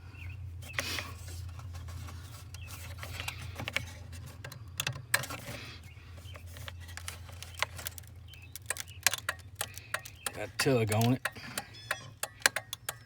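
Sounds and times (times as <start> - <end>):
steady low hum: 0.0 - 13.0
hands clicking and scraping flasher: 0.7 - 13.0.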